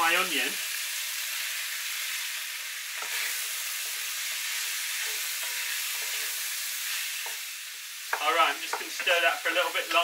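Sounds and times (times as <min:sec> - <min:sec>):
meat and onion sizzling in pot: 0:00.0 - 0:10.0.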